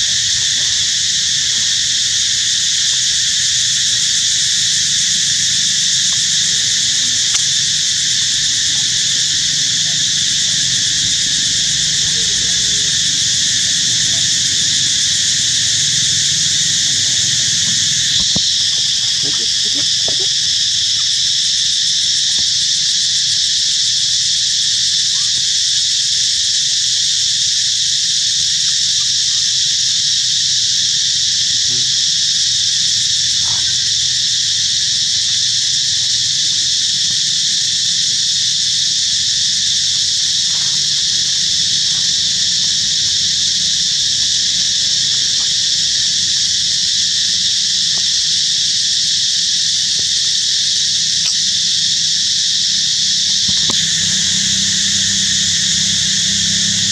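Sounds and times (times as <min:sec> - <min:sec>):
insects buzzing chorus: 0:00.0 - 0:56.9.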